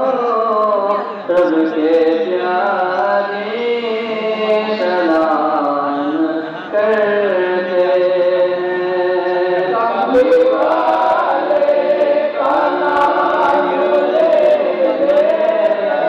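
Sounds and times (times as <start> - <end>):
crowd singing in unison: 0.0 - 16.0.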